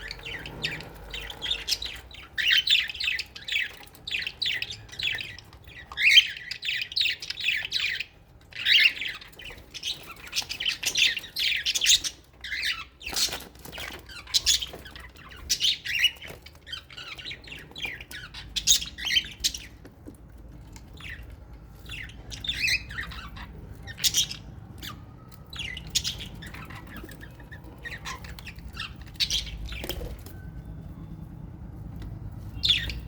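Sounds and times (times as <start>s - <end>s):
parrots squawking and chirping: 0.0s - 30.8s, 32.4s - 33.0s.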